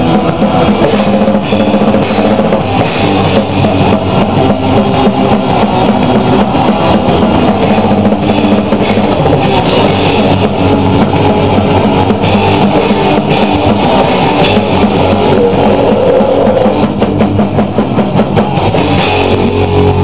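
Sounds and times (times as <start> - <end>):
drum kit: 0.0 - 20.0
rock band playing live: 0.0 - 20.0.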